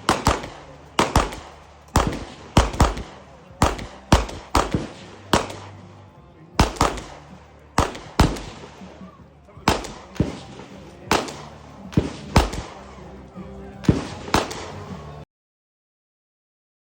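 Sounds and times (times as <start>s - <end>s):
gunshots in quick pairs: 0.0s - 15.2s.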